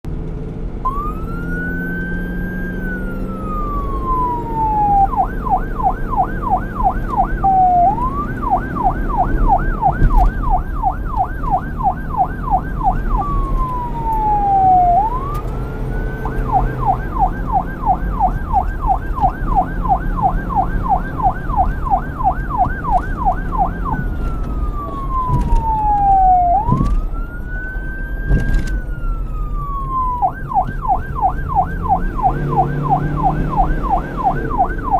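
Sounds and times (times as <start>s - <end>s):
police siren wailing and yelping: 0.8s - 34.9s.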